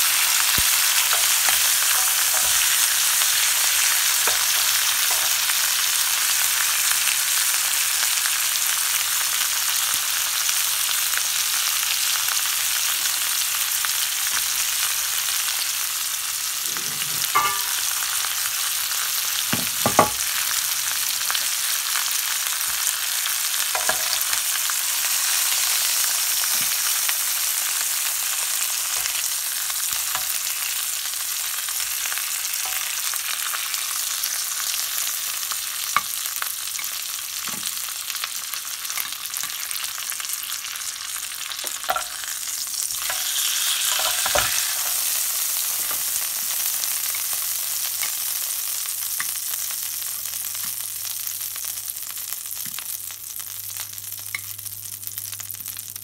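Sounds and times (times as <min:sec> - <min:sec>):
meat sizzling in a grill pan: 0:00.0 - 0:56.0.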